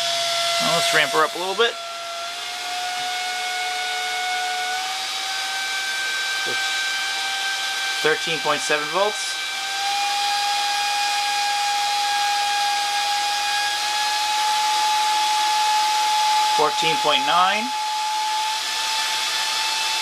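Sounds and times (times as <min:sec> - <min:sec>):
hair dryer motor whine: 0:00.0 - 0:20.0.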